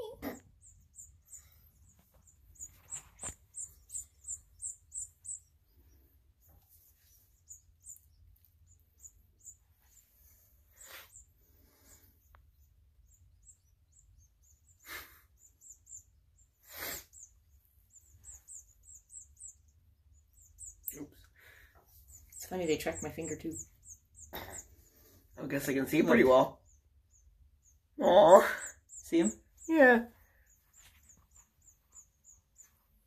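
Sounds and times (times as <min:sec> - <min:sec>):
nestlings chirping: 0:00.0 - 0:33.0.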